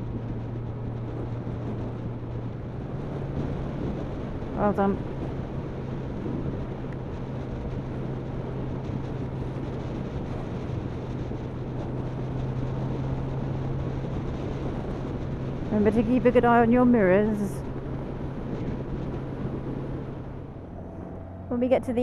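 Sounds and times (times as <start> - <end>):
motorcycle engine cruising: 0.0 - 22.0
wind noise on the microphone: 0.0 - 22.0.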